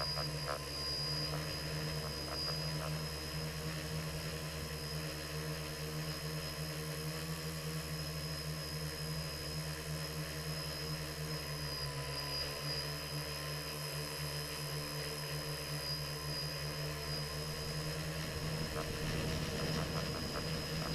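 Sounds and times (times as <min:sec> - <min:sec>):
drone motors humming and whining: 0:00.0 - 0:20.9.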